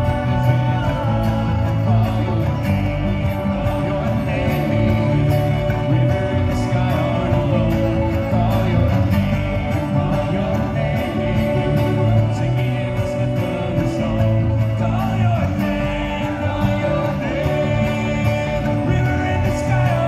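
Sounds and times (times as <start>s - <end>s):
acoustic guitar: 0.0s - 20.0s
banjo: 0.0s - 20.0s
people singing into microphones: 0.0s - 20.0s.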